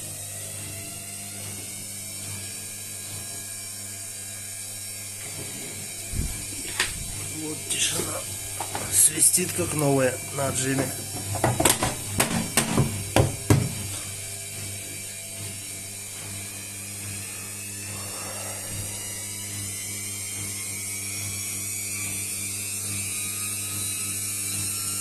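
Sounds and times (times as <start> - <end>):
high whine rising in pitch: 0.0 - 13.1, 13.8 - 21.8
washing machine motor hum: 0.0 - 25.0.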